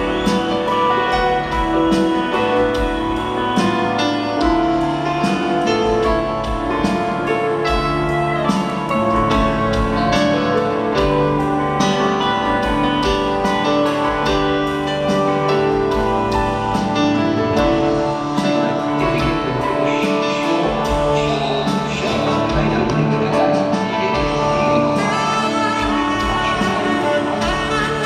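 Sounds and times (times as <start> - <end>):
live band playing slow song: 0.0 - 28.0.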